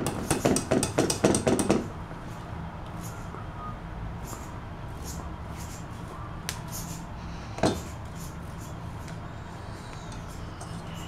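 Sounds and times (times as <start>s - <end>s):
low steady hum: 1.8s - 11.0s.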